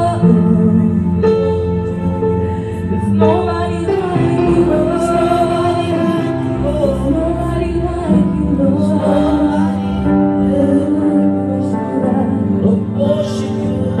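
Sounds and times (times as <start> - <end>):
backing vocalists singing: 0.0 - 14.0
held keyboard chords: 0.0 - 14.0
woman lead singer: 0.0 - 14.0.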